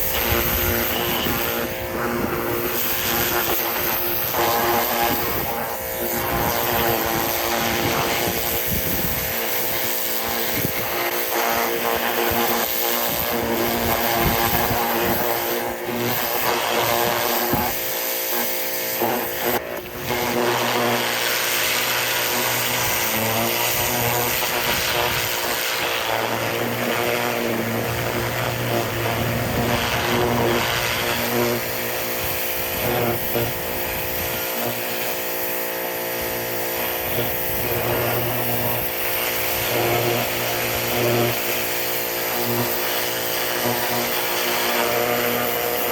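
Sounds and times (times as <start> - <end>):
pressure washer motor whining: 0.0 - 45.9
water jet hissing on metal: 0.0 - 45.9.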